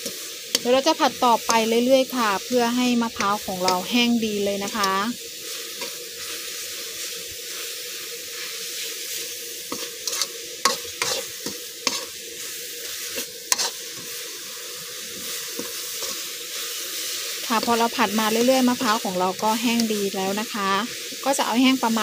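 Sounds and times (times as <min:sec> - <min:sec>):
frying sizzle: 0:00.0 - 0:22.0
spatula scraping in a wok: 0:00.0 - 0:22.0.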